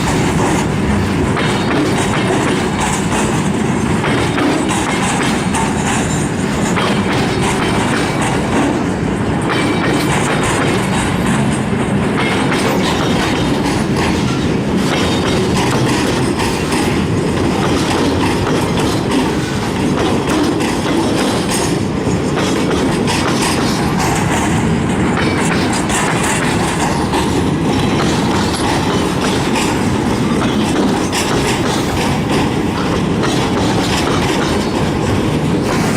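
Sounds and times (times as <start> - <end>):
wheels clattering over rails: 0.0 - 35.9.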